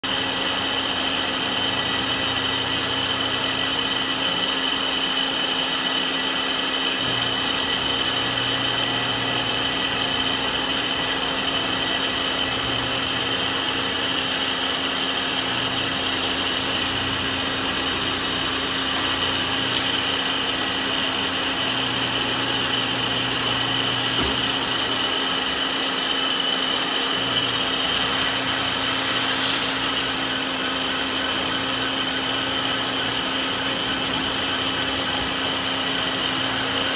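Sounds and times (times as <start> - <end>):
drill press whine: 0.1 - 36.9.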